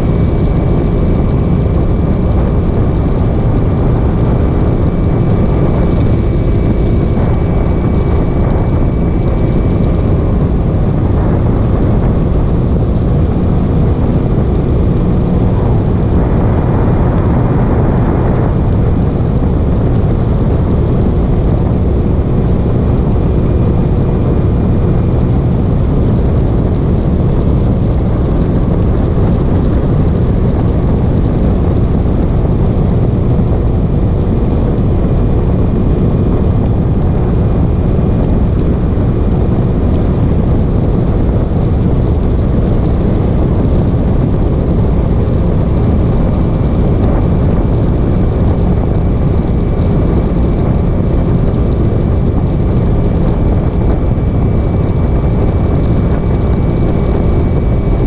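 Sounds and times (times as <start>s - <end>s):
motorcycle engine drone: 0.0s - 58.0s
wind rush on microphone: 0.0s - 58.0s.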